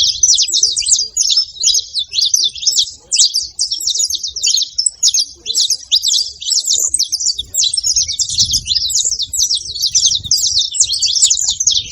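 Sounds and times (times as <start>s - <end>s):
finches chirping and twittering: 0.0s - 11.9s.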